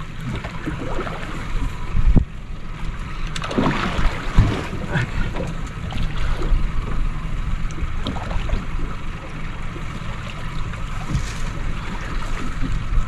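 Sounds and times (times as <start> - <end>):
water washing against boat hull: 0.0 - 13.0.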